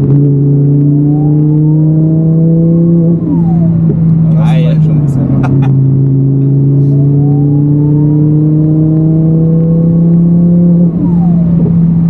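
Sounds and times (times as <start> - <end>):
car engine pulling from inside cabin: 0.0 - 12.0.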